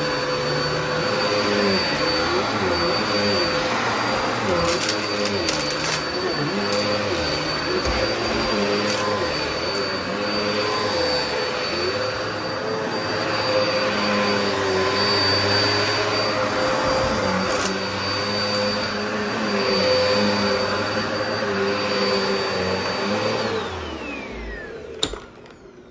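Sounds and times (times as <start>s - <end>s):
vacuum cleaner motor whine: 0.0s - 25.9s.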